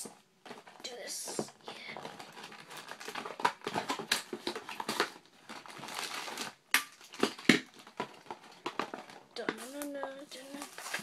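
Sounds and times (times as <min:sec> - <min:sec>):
plastic packaging crinkling: 0:00.5 - 0:11.0.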